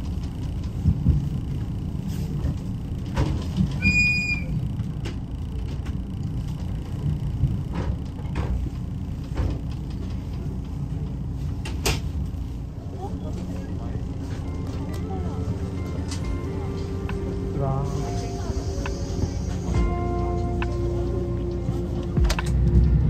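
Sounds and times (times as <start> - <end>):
train carriage running rumble: 0.0 - 23.0.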